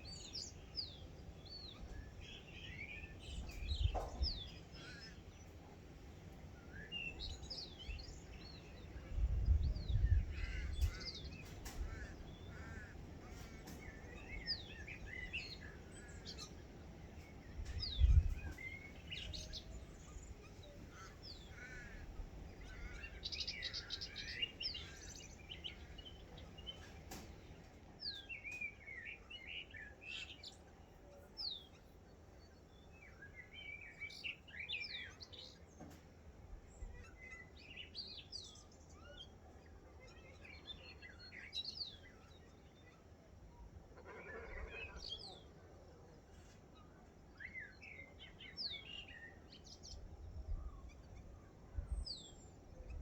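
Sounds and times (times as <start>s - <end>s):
wild birds chirping and singing: 0.0s - 53.0s.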